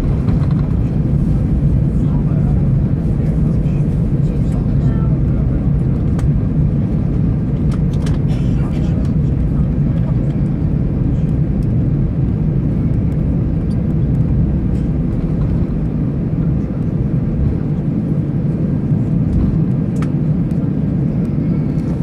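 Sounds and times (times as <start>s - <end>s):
aircraft cabin low rumble: 0.0s - 22.0s.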